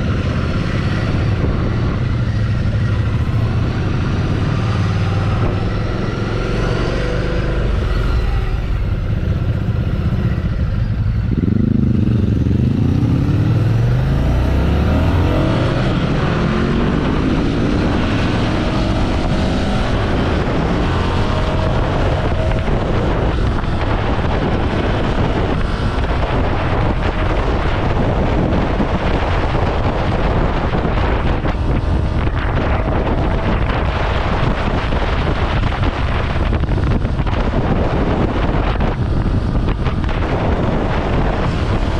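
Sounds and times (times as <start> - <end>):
motorcycle engine: 0.0 - 41.9
wind rushing past: 0.0 - 41.9.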